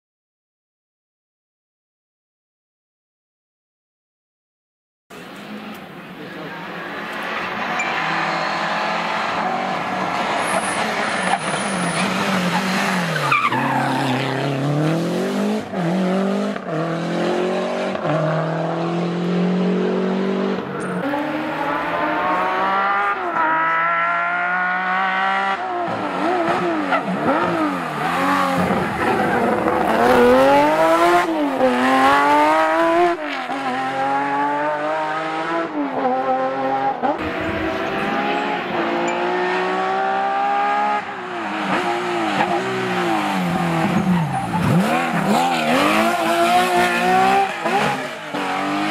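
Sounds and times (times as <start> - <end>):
rally car engines revving: 5.1 - 48.9.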